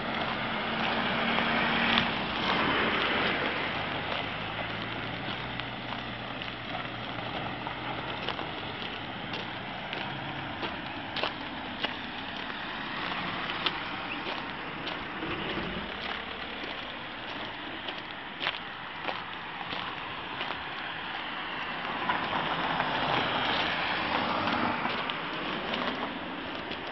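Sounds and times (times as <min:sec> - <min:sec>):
car engine passing: 0:00.0 - 0:18.0, 0:19.6 - 0:26.6.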